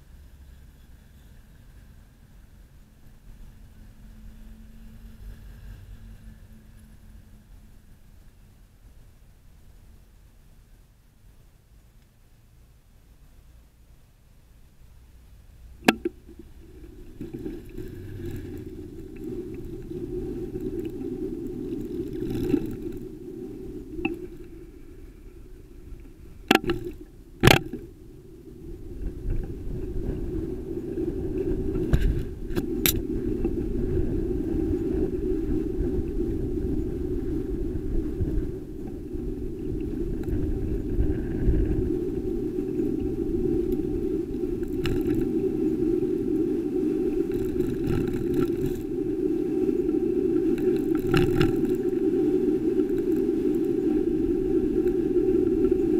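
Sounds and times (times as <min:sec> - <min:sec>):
road and wind rumble: 0:00.0 - 0:55.9.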